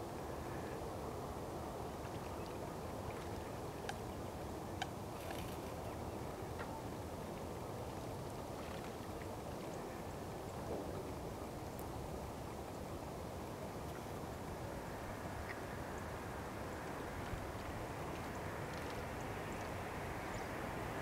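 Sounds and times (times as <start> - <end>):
outdoor background noise by a lake: 0.0 - 21.0.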